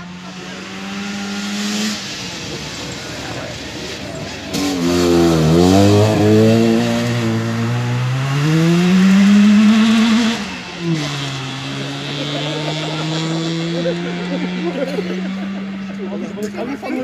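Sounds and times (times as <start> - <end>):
two-stroke car engine revving: 0.0 - 17.0.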